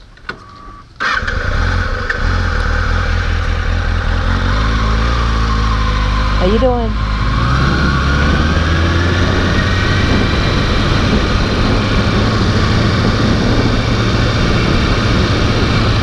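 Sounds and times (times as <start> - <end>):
motorcycle engine accelerating: 1.0 - 16.0
low drone and rushing noise: 1.6 - 16.0.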